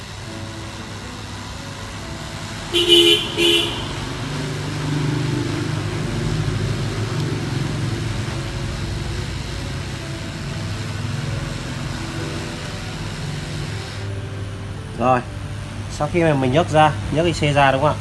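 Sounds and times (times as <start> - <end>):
hot air hissing: 0.0 - 18.0
low motor hum: 0.0 - 18.0.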